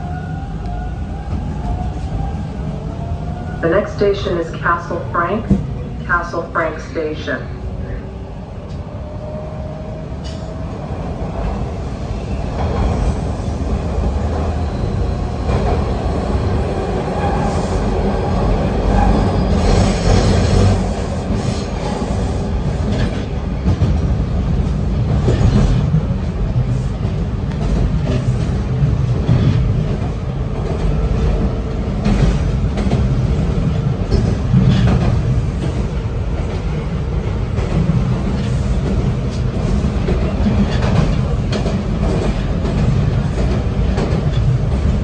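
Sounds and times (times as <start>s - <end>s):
subway train accelerating: 0.0s - 45.0s
wheels rumbling on rail: 7.6s - 45.0s.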